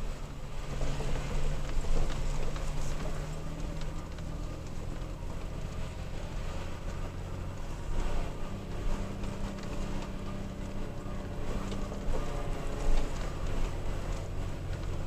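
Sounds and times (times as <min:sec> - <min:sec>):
pickup truck engine running: 0:00.0 - 0:15.0
truck rattling over rough trail: 0:00.0 - 0:15.0.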